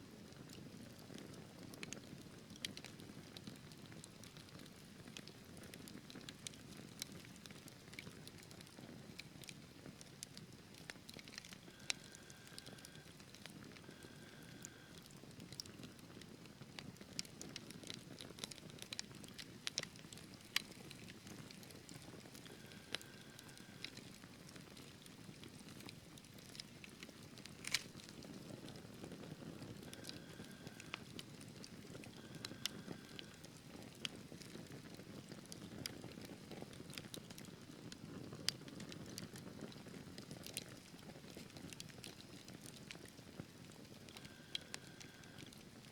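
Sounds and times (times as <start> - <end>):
logs crackling and popping: 0.1 - 45.9.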